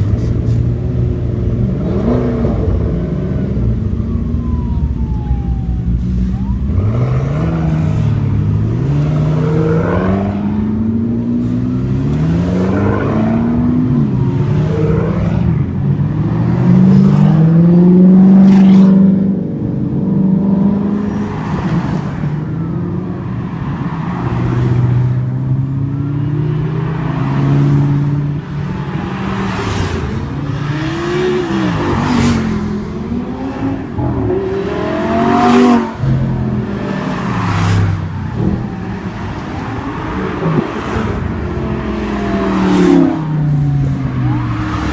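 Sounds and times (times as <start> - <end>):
sports car engines revving: 0.0 - 44.9.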